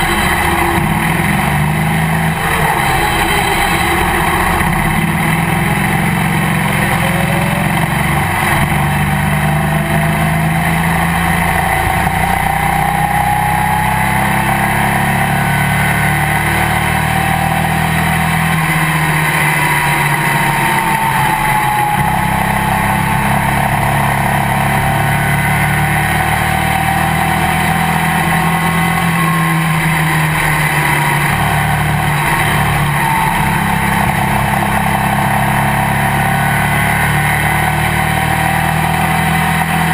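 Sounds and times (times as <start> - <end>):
race car engine droning: 0.0 - 39.9.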